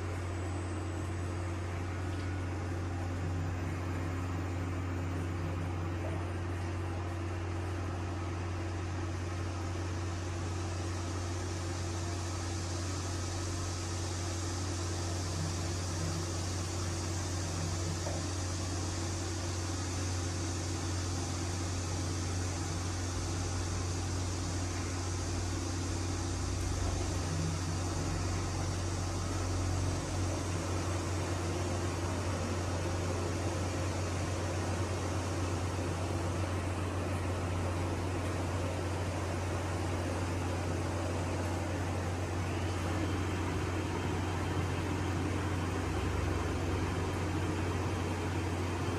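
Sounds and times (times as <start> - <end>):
washing machine running: 0.0 - 48.9.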